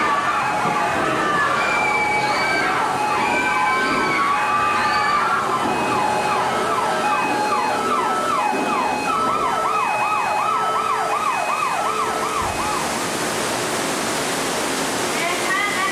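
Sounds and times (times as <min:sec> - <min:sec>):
siren yelp: 0:00.0 - 0:12.9
emergency sirens: 0:00.0 - 0:13.6
floodwater rushing: 0:00.0 - 0:15.9.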